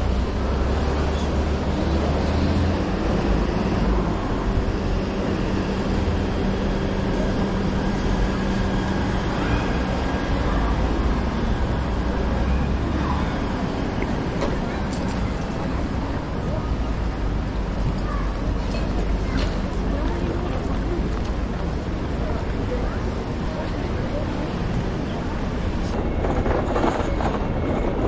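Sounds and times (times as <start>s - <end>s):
engine humming: 0.0s - 28.0s
traffic low rumble: 0.0s - 28.0s.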